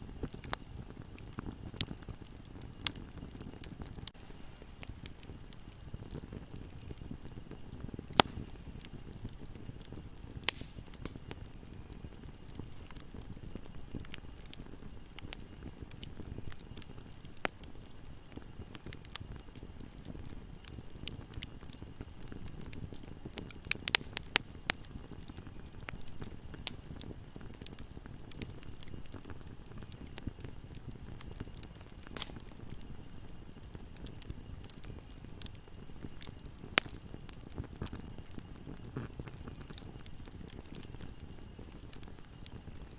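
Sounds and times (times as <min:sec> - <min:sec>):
burning wood popping: 0:00.0 - 0:42.9
campfire crackling: 0:00.0 - 0:42.9.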